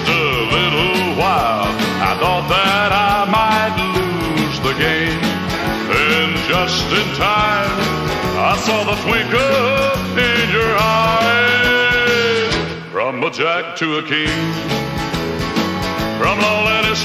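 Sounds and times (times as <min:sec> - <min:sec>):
bass and drums: 0:00.0 - 0:13.0, 0:14.2 - 0:17.0
sliding melody lines: 0:00.0 - 0:13.1, 0:14.2 - 0:17.0
country music instrumental: 0:00.0 - 0:17.0.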